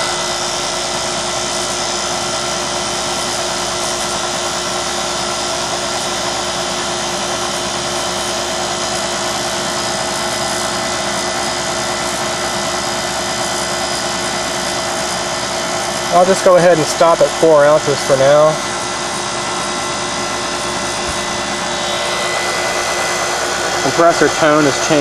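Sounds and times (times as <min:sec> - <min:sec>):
heat pump humming: 0:00.0 - 0:25.0.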